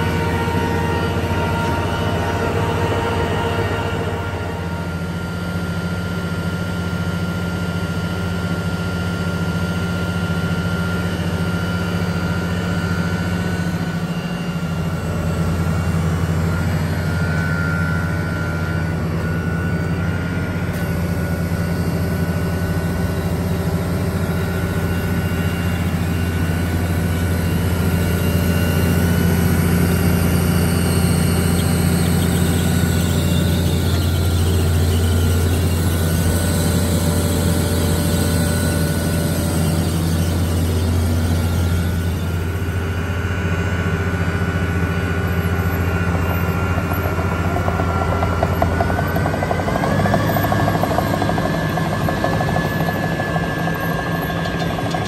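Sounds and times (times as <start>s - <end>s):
diesel engine idling: 10.2s - 55.0s.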